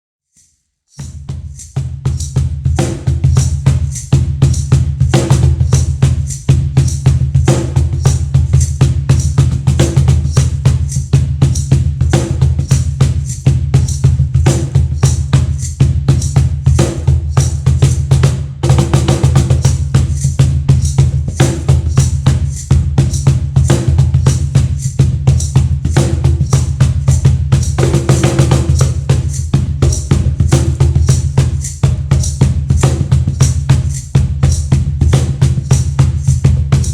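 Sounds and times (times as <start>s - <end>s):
cajon played by hand: 1.3s - 36.9s.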